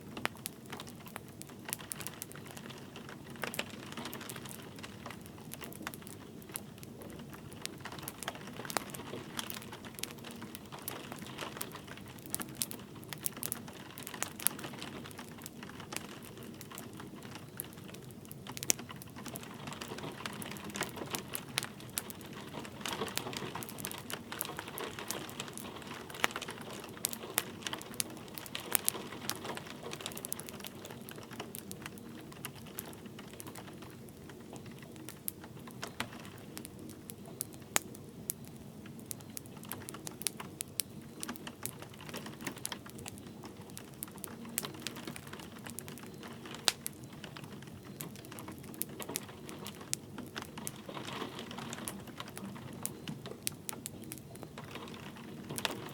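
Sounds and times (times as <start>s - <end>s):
light rain pattering: 0.0s - 55.9s
wood fire crackling and popping: 0.0s - 55.9s.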